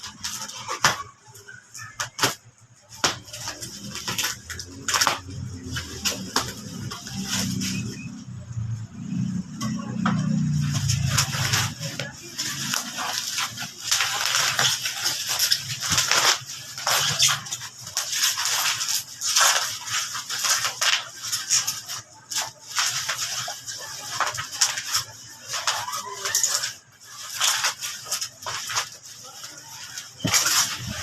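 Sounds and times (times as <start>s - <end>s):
packaging crinkling and tearing: 0.0s - 8.4s, 9.0s - 31.0s.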